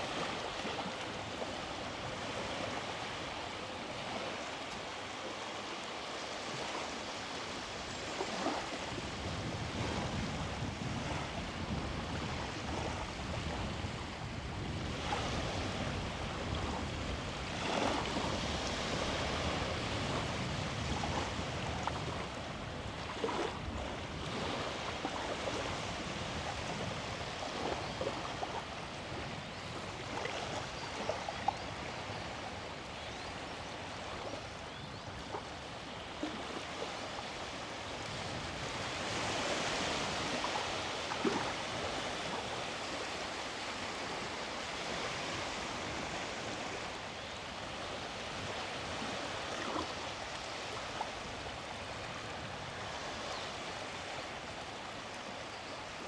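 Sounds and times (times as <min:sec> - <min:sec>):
sea waves washing onto beach: 0:00.0 - 0:34.6, 0:35.3 - 0:56.0.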